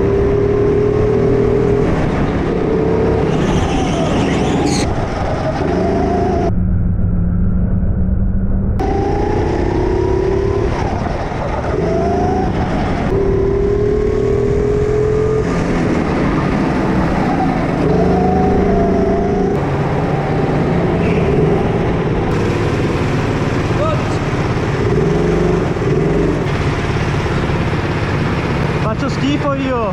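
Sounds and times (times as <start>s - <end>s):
go-kart engine revving: 0.0s - 6.5s, 8.8s - 29.9s.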